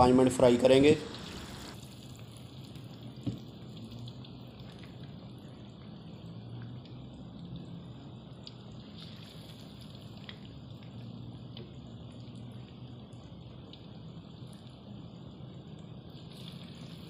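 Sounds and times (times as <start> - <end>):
low steady hum: 0.0 - 17.0
fish sizzling in hot oil: 1.1 - 17.0.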